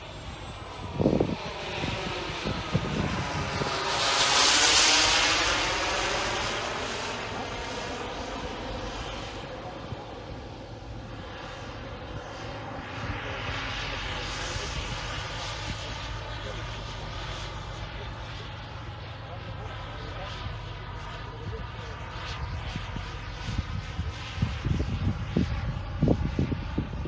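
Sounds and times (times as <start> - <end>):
model jet turbine passing overhead: 0.0 - 27.0.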